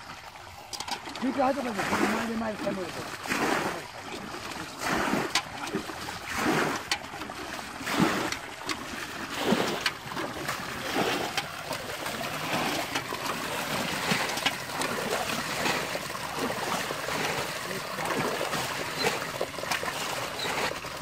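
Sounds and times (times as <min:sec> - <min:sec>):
running water: 0:00.0 - 0:21.0
water poured from metal pot: 0:00.7 - 0:21.0.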